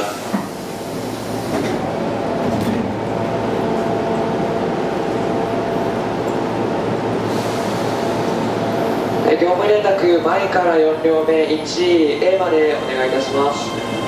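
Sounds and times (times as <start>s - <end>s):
train equipment humming: 0.0s - 14.0s.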